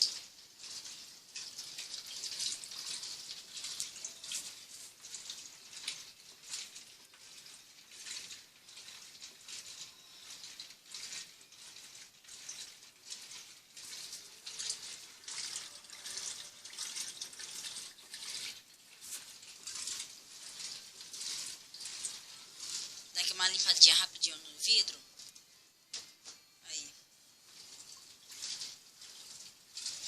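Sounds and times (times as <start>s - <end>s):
water sloshing in washing machine: 0.0s - 30.0s.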